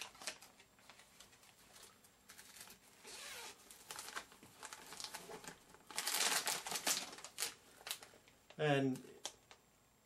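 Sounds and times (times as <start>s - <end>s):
packaging rustling and clicking: 0.0s - 8.1s.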